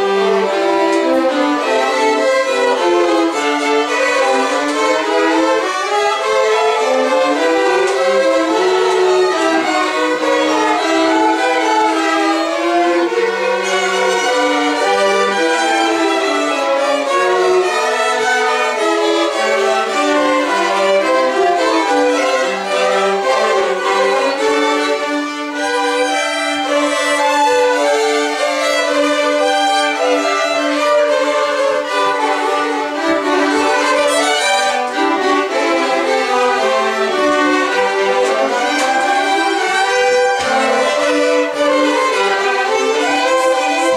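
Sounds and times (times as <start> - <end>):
violin ensemble playing: 0.0 - 43.9.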